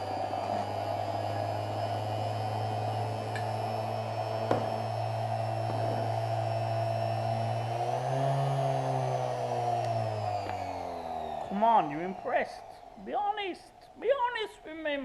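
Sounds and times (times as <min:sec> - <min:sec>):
electric grinder running: 0:00.0 - 0:15.0.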